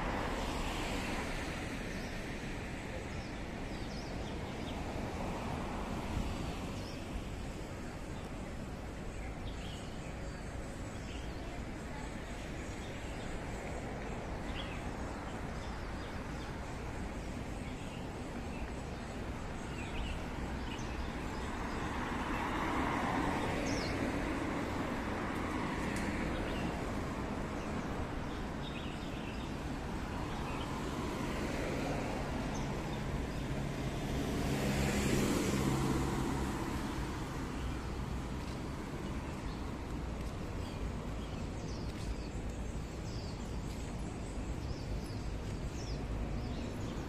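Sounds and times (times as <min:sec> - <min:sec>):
passing vehicles: 0:00.0 - 0:47.0.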